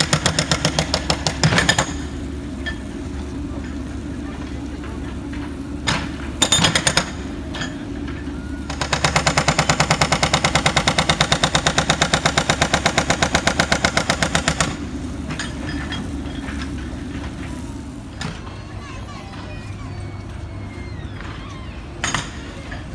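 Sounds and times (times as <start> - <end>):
jackhammer blows: 0.0 - 22.9.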